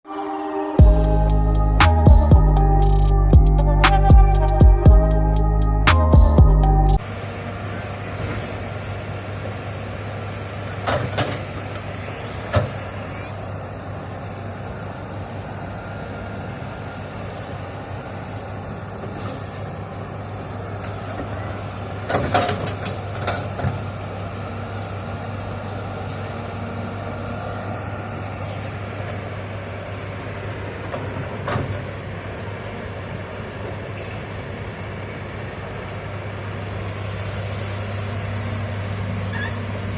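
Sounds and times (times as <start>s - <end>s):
excavator diesel engine running: 0.1s - 39.9s.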